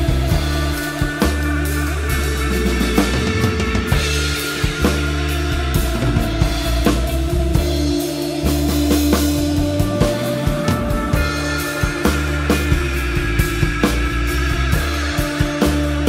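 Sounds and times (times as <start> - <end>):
bass notes: 0.0 - 16.0
drum kit playing: 0.0 - 16.0
sustained guitar tones: 0.0 - 16.0.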